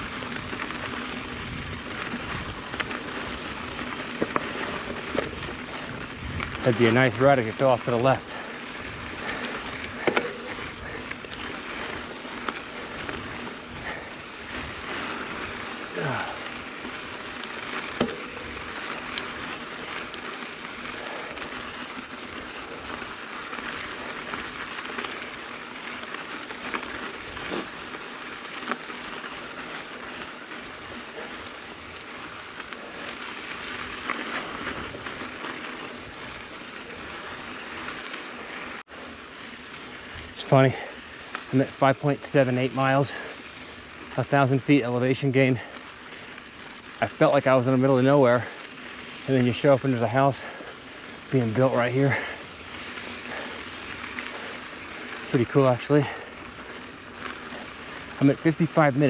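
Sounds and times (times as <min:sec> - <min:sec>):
bike clicking and rattling: 0:00.0 - 0:59.0
bike tyres rolling on dirt: 0:00.0 - 0:59.0.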